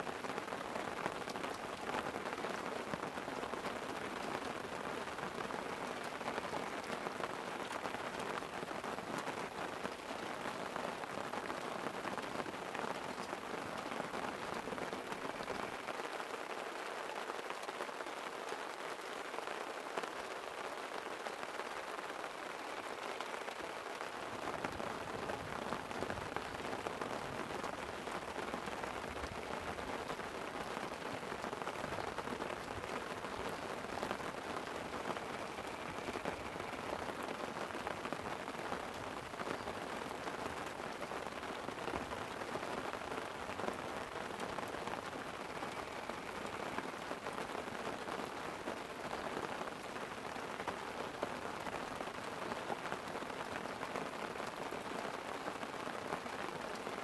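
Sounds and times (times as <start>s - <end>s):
light rain on a tent: 0.0s - 57.0s.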